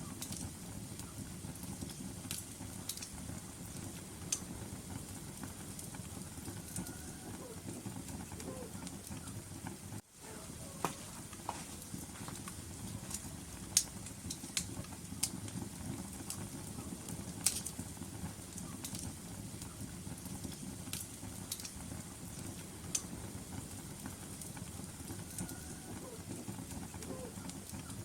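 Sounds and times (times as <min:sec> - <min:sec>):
fire flames rustling: 0:00.0 - 0:28.0
logs crackling and popping: 0:00.0 - 0:28.0.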